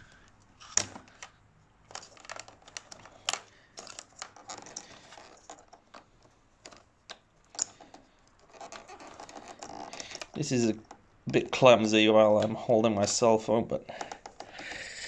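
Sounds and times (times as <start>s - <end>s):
wires rustling: 0.0s - 13.3s.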